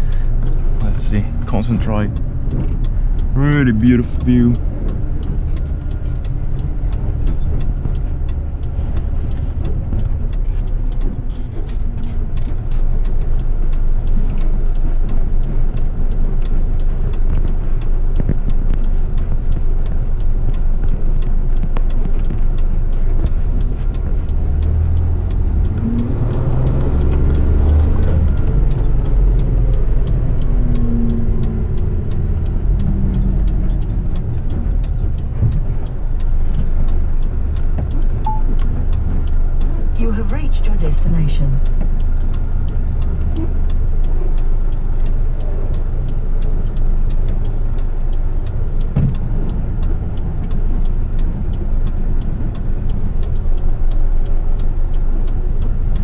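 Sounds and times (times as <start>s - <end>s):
truck diesel engine drone: 0.0s - 56.0s.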